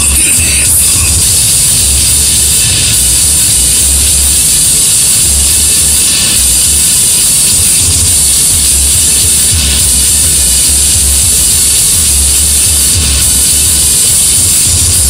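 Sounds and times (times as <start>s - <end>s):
electronic music with heavy bass: 0.0s - 15.0s
loud steady hiss: 0.0s - 15.0s.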